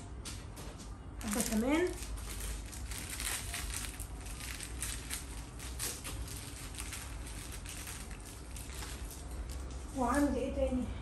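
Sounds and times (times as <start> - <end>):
plastic sachet crinkling: 1.2 - 10.3.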